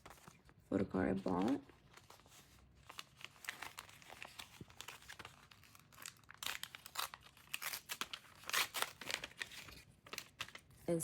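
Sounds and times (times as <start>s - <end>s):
packaging crinkling: 1.2s - 10.9s.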